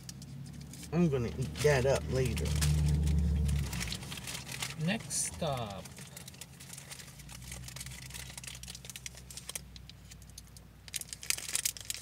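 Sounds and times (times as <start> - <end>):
cardboard and wrapper rustling: 0.0 - 10.2, 10.9 - 12.0
low steady hum: 0.0 - 12.0.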